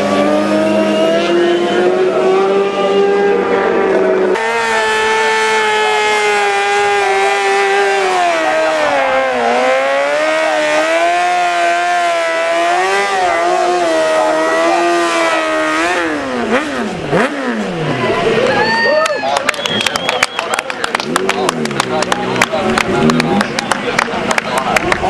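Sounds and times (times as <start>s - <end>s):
sport bike engine revving: 0.0s - 18.4s, 20.6s - 25.0s
motorcycles passing by: 0.0s - 18.6s, 19.3s - 25.0s.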